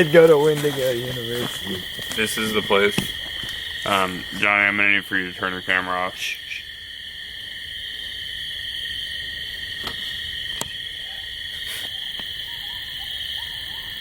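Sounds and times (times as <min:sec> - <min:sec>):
coyotes yipping and howling: 0:00.0 - 0:14.0
crickets and katydids chorus: 0:00.0 - 0:14.0.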